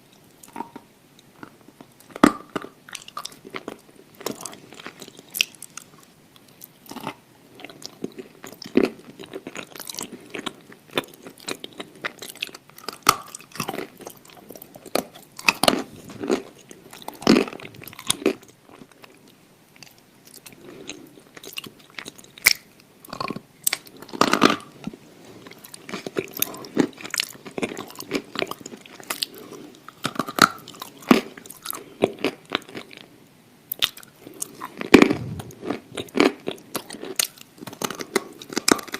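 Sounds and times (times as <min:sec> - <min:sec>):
crunchy chewing: 0:00.1 - 0:33.1, 0:33.7 - 0:38.9.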